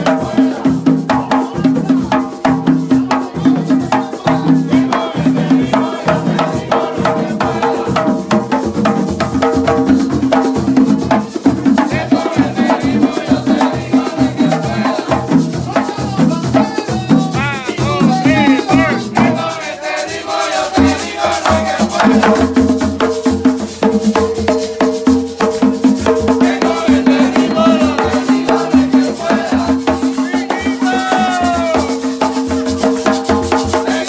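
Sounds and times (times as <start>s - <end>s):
frame drums beating fast rhythm: 0.0s - 34.0s
people singing: 0.0s - 34.0s.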